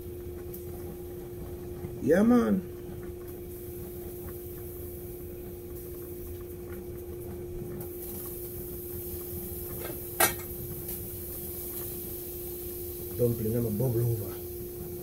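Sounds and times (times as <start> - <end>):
kitchen hum with constant tone: 0.0 - 15.0.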